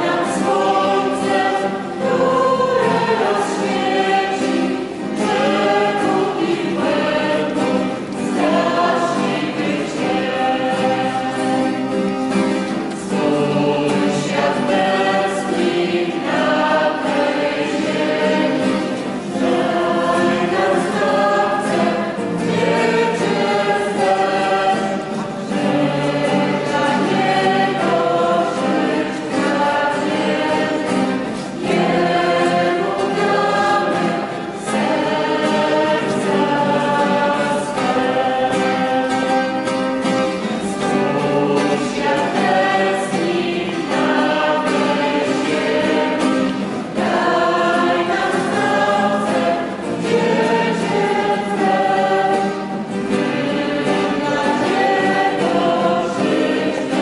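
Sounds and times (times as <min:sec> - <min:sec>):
acoustic guitar strumming: 0:00.0 - 0:57.0
mixed choir singing a hymn: 0:00.0 - 0:57.0.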